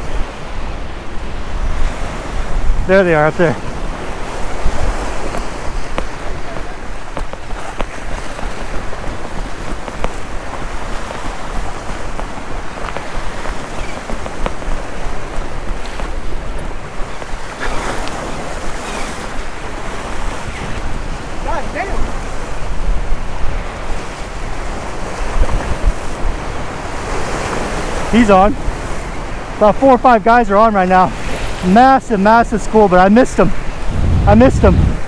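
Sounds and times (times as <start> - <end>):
wind on microphone: 0.0 - 29.6, 32.4 - 35.0
waves breaking against rocks: 0.0 - 35.0.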